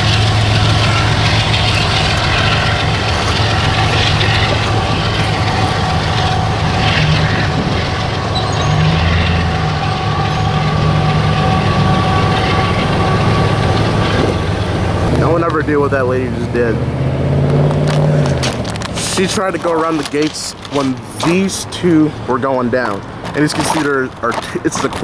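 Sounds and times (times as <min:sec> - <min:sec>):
empty freight cars rumbling: 0:00.0 - 0:25.0
locomotive engine drone: 0:00.0 - 0:25.0.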